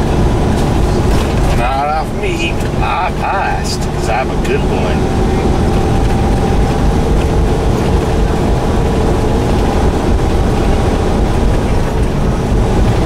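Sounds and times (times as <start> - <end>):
truck diesel engine droning: 0.0 - 13.0
tyre and road noise: 0.0 - 13.0.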